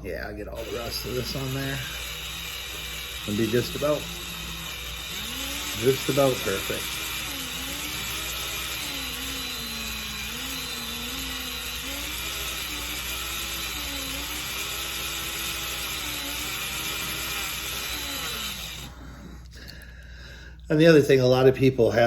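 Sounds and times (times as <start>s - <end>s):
cordless drill motor whine: 0.4s - 19.8s.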